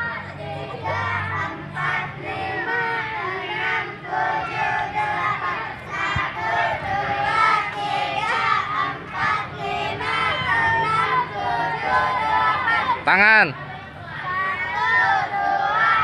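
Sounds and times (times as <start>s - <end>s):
crowd of children talking: 0.0s - 16.0s.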